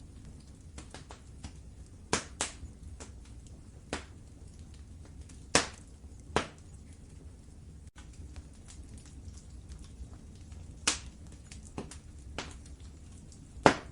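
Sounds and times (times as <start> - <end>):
low rumble of flames: 0.0 - 13.9
wood fire crackling: 0.0 - 13.9
sharp pops of fire: 0.2 - 7.2, 7.9 - 13.9.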